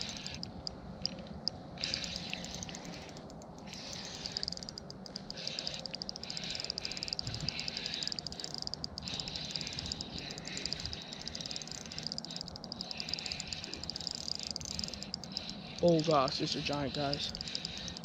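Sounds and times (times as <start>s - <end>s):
chorus of frogs trilling: 0.0s - 0.5s, 1.8s - 18.0s.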